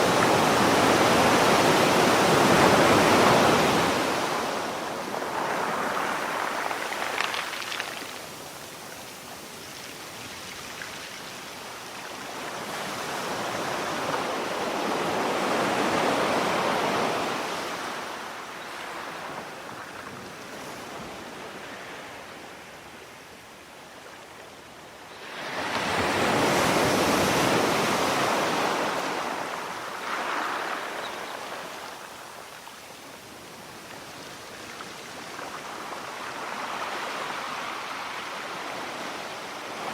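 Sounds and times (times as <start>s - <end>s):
waves breaking and washing back: 0.0s - 22.9s, 24.9s - 39.9s.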